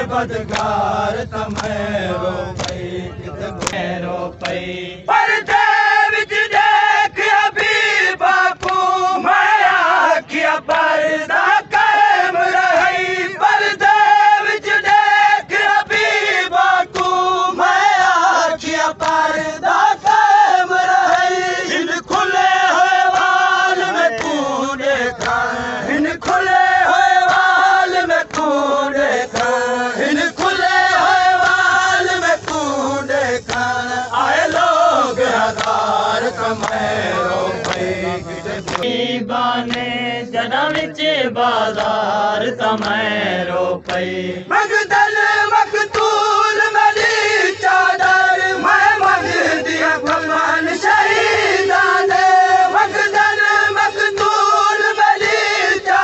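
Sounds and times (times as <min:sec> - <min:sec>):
men chanting over loudspeaker: 0:00.0 - 0:56.0.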